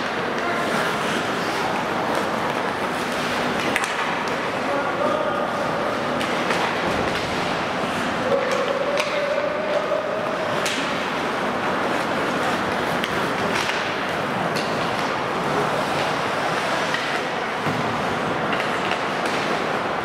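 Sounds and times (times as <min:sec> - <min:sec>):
hockey sticks and puck clacking: 0:00.0 - 0:20.0
skates scraping on ice: 0:00.0 - 0:20.0.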